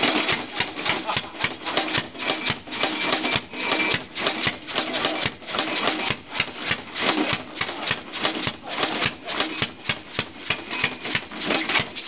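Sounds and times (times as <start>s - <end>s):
engine mechanical clatter: 0.0s - 12.0s.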